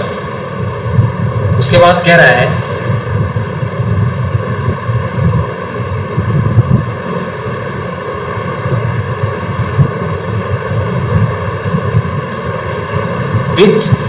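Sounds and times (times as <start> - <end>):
low rumble: 0.0 - 14.0
steady rushing noise: 0.0 - 14.0.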